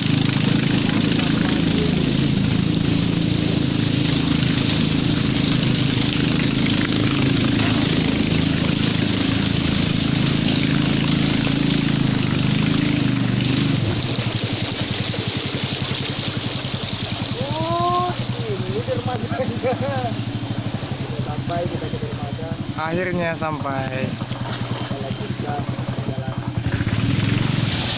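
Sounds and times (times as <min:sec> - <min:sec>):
boat engine running: 0:00.0 - 0:27.9
rushing water: 0:00.0 - 0:27.9.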